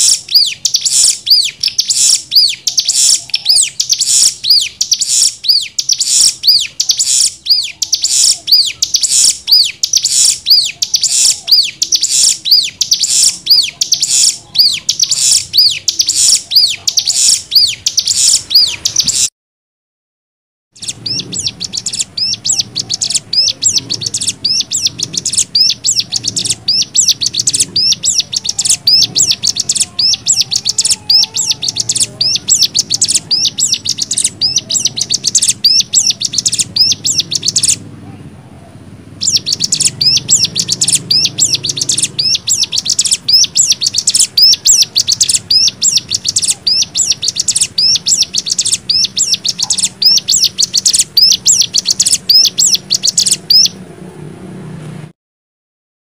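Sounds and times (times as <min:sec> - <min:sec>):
bird singing rapid high chirps: 0:00.0 - 0:19.3, 0:20.8 - 0:37.8, 0:39.2 - 0:53.8.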